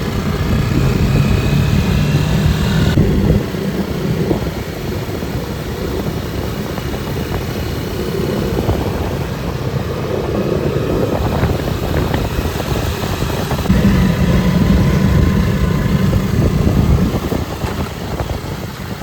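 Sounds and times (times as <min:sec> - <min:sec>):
small engine rough rumble: 0:00.0 - 0:19.0.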